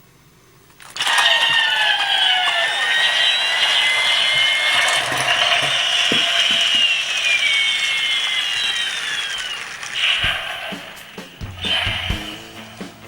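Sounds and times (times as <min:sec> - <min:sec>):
toy helicopter whirring and whining: 0:00.8 - 0:12.3.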